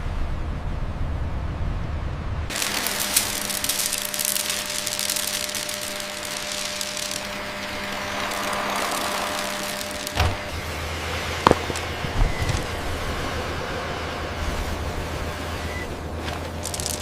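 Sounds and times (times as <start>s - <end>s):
gritty scraping hiss: 2.5s - 15.6s, 16.2s - 17.0s
small motor humming: 2.5s - 17.0s.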